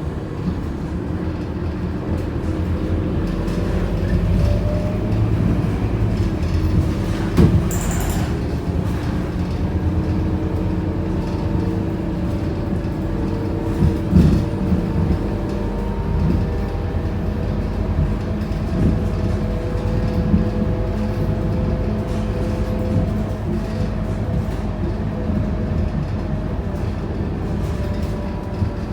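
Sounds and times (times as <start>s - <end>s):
bus engine rumble: 0.0s - 28.9s.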